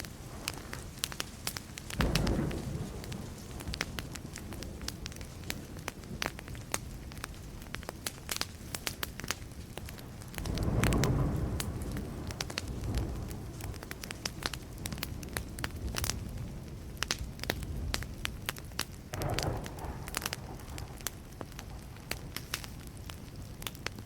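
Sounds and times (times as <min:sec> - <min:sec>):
distant thunder rumble: 0:00.0 - 0:07.8, 0:09.9 - 0:23.8
wood fire crackling: 0:00.0 - 0:24.0.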